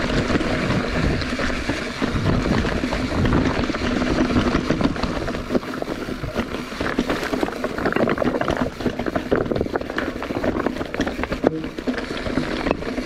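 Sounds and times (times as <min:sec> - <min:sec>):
bike clicks and rattles: 0:00.0 - 0:13.0
tyres crunching over stones: 0:00.0 - 0:13.0
wind buffeting microphone: 0:00.0 - 0:13.0.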